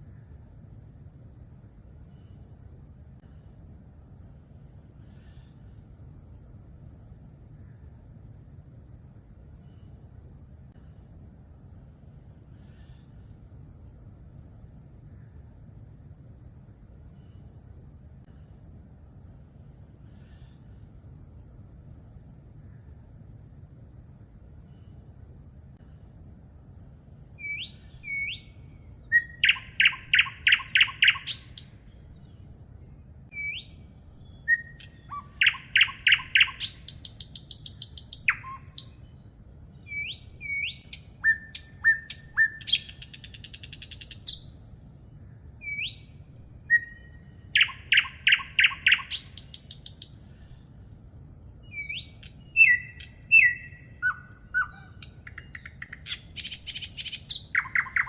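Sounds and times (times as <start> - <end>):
songbird singing: 0.0 - 16.2, 27.1 - 58.0.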